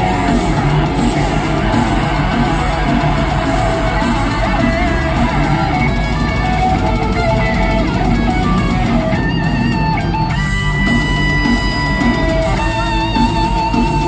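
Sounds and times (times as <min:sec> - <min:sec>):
distorted electric guitars: 0:00.0 - 0:14.0
metal band playing live: 0:00.0 - 0:14.0.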